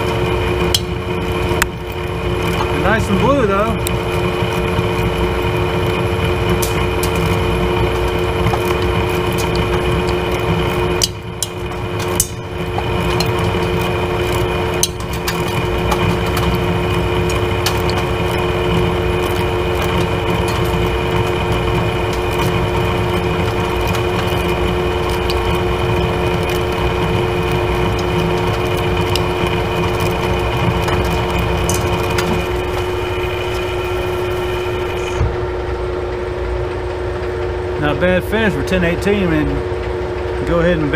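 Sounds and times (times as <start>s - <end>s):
lathe machine hum with whine: 0.0s - 40.9s.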